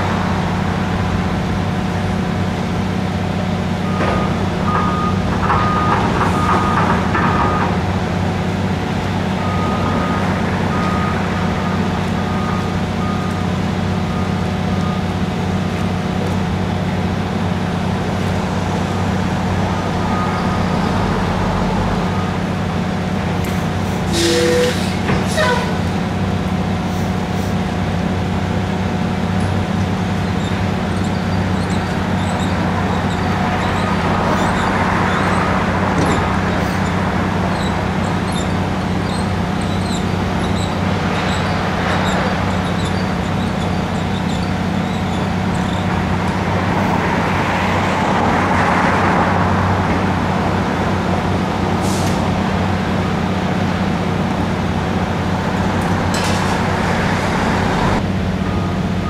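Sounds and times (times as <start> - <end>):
diesel excavators running: 0.0 - 59.0.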